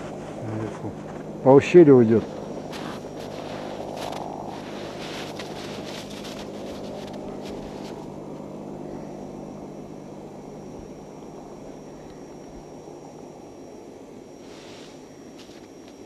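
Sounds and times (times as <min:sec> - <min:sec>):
distant helicopter droning: 0:00.0 - 0:16.0.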